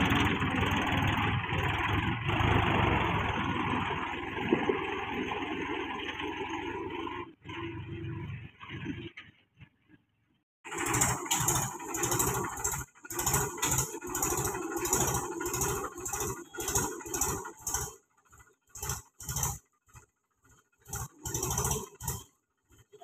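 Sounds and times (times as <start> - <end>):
diesel tractor engine chugging: 0.0 - 9.8, 10.6 - 23.0.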